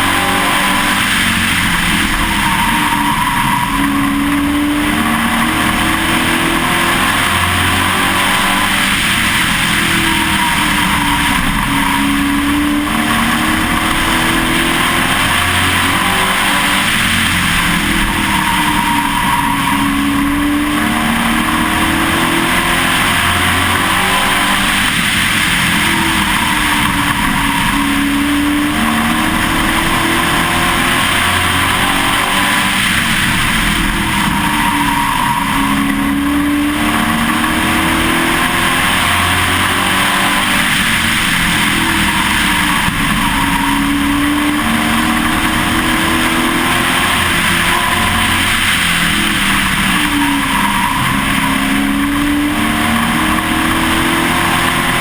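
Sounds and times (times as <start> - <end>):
racing truck engine: 0.0 - 55.0
wind and road noise: 0.0 - 55.0.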